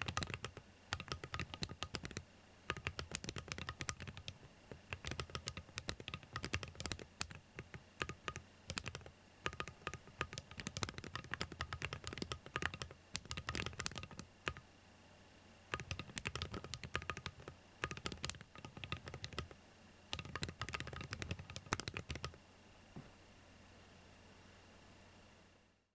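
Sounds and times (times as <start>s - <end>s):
keyboard keystrokes clicking: 0.0s - 14.6s, 15.7s - 22.4s
faint steady hum: 0.0s - 25.9s.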